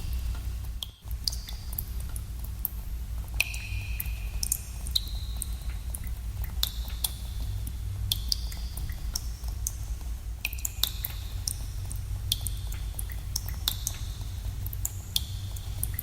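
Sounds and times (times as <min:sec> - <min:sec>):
water dripping in a cave: 0:00.0 - 0:16.0.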